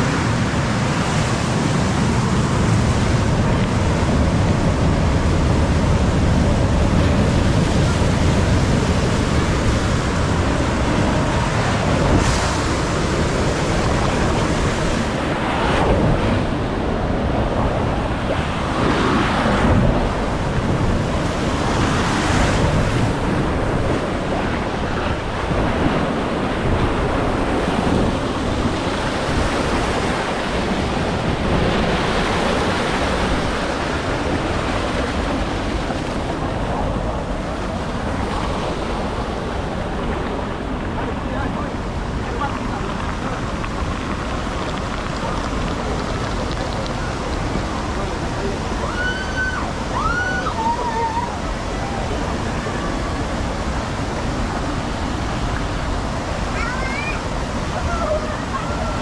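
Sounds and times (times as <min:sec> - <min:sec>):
water rushing and splashing: 0:00.0 - 0:59.0
wind buffeting microphone: 0:00.0 - 0:59.0.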